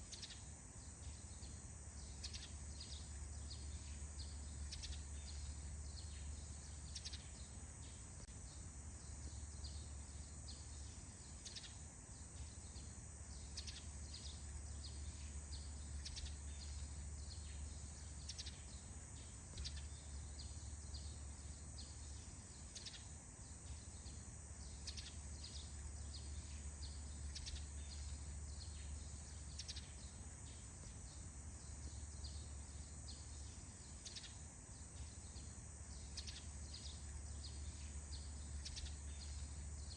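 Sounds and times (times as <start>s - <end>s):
high insect trill: 0.0s - 39.9s
small birds chirping: 0.0s - 39.9s.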